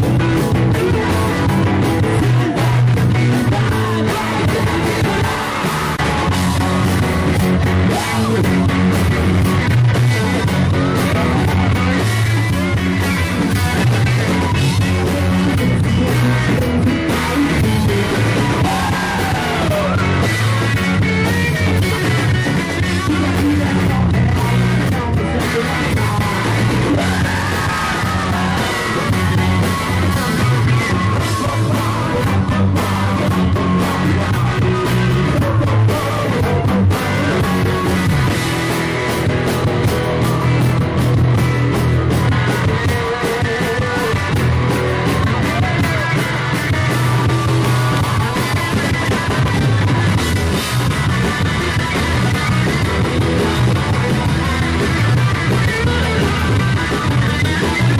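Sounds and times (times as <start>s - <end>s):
person singing: 0.0s - 41.4s, 42.1s - 57.9s
bass guitar: 0.0s - 57.9s
drums: 0.0s - 57.9s
electric guitars: 0.0s - 57.9s.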